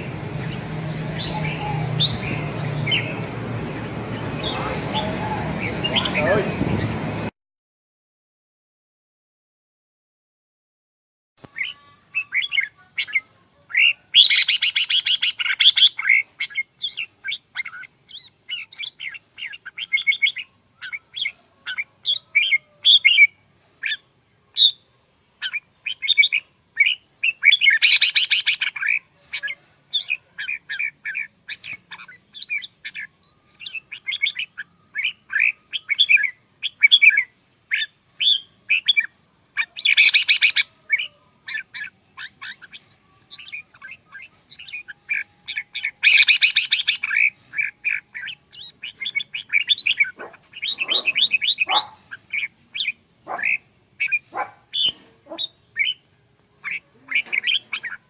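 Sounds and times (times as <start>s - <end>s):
bird chirping: 0.0s - 7.0s, 11.4s - 58.0s.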